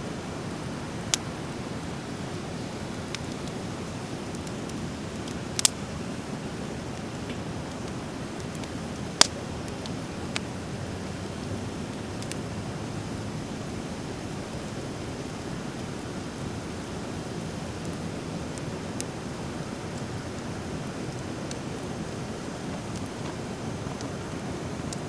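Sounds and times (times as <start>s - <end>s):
fire crackling and popping: 0.0s - 25.0s
steady rushing hiss: 0.0s - 25.0s.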